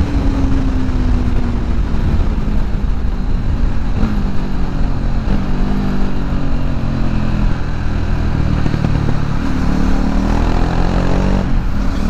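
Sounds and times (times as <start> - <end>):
motorcycle engine pulling hard: 0.0 - 12.0
wind rumble on microphone: 0.0 - 12.0.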